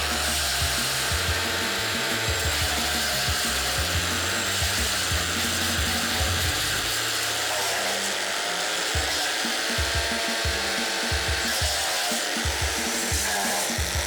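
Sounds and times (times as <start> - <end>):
brush chipper running: 0.0 - 14.0
wood knocking in chipper: 0.0 - 14.0.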